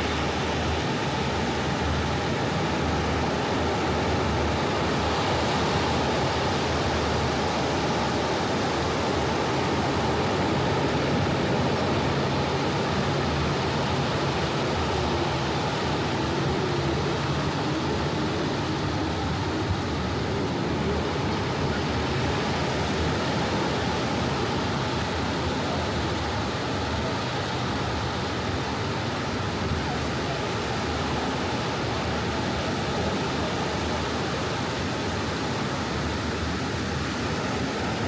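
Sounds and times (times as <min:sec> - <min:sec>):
soft ocean waves washing: 0:00.0 - 0:38.0.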